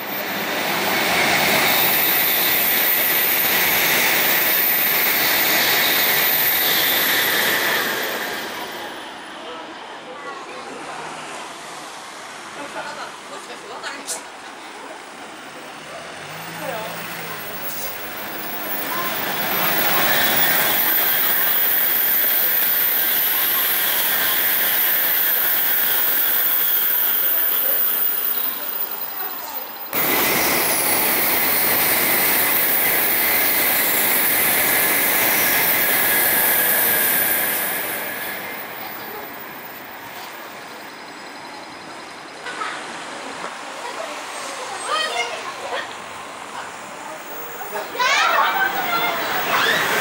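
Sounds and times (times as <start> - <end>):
bullet train passing at high speed: 0.0 - 50.0.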